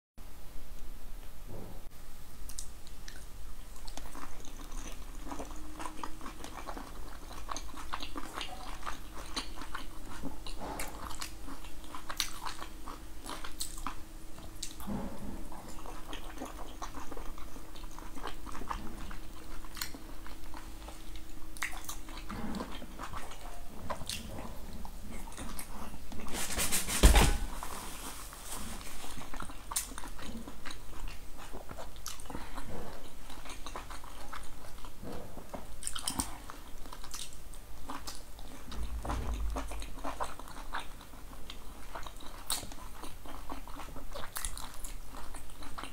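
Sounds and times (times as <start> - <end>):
person chewing and biting: 2.5 - 26.3, 28.6 - 35.0, 35.6 - 45.9.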